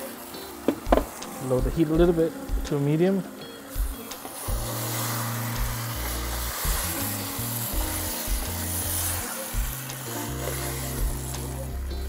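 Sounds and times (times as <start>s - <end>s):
background music: 0.0s - 12.0s
food sizzling in oil: 0.0s - 12.0s.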